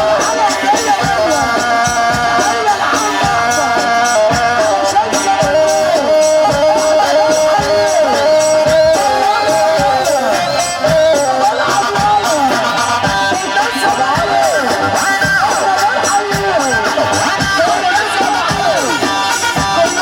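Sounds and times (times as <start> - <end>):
dance music with drum beat: 0.0 - 20.0.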